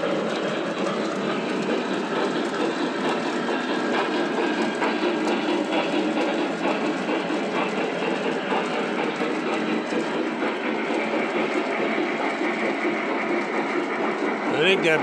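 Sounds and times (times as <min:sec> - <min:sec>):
model trains rattling on track: 0:00.0 - 0:15.0.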